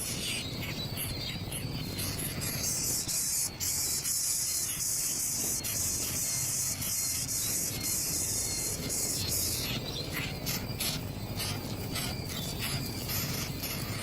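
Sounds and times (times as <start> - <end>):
insect chorus shrilling: 0.0 - 14.0.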